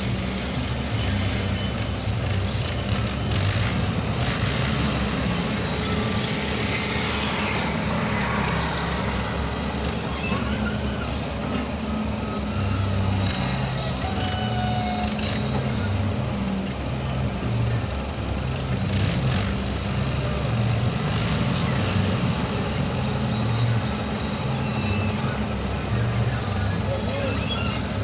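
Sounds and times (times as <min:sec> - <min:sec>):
excavator diesel engine under load: 0:00.0 - 0:28.0.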